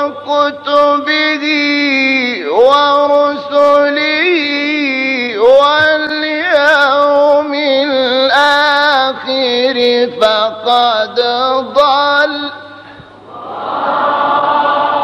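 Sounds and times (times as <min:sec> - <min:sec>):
person chanting melodic recitation: 0:00.0 - 0:12.8.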